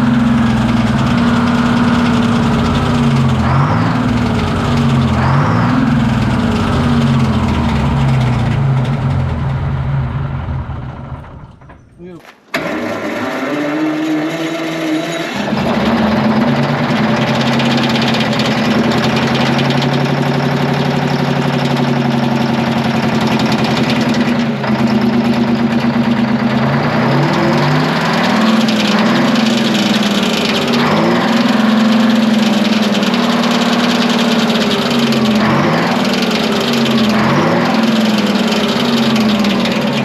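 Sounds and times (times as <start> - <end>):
diesel generator engine running: 0.0 - 40.0.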